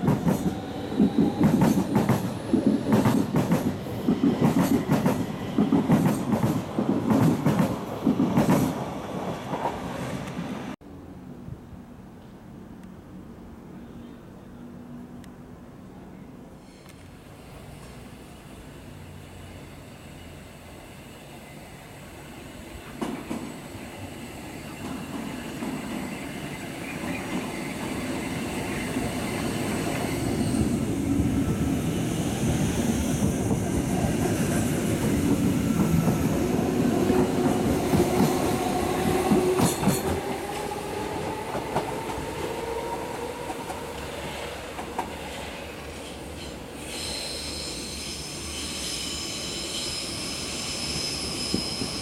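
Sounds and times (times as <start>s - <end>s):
train whine: 0.0s - 10.8s, 16.6s - 52.0s.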